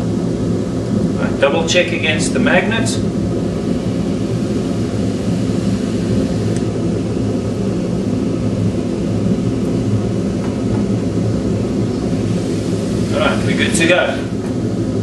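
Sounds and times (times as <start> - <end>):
gas forge burner rushing: 0.0 - 15.0.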